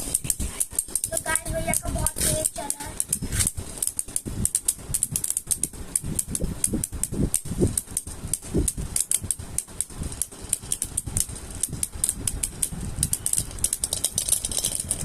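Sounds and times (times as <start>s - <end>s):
spinning tops colliding: 0.0s - 15.0s.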